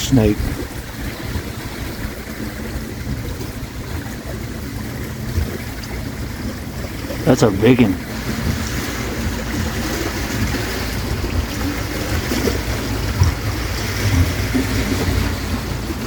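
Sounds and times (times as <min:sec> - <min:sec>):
lake water lapping: 0:00.0 - 0:16.0
wind on microphone: 0:00.0 - 0:16.0.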